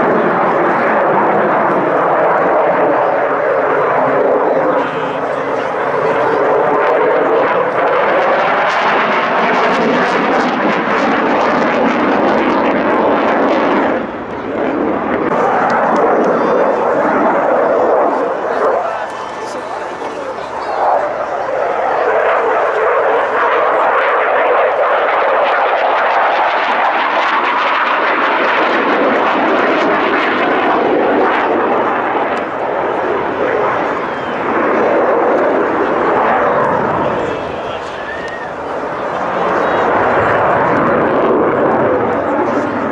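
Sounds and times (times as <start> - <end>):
airplane engine: 0.0 - 42.9.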